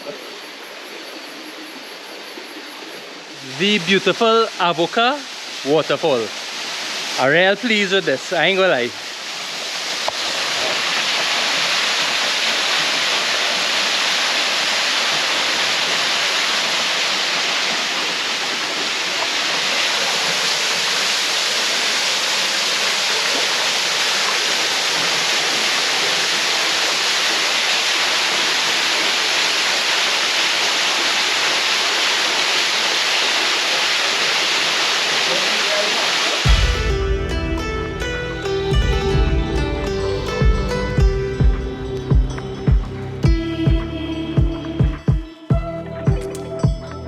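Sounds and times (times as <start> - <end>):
waterfall pouring into pool: 2.7 - 41.5.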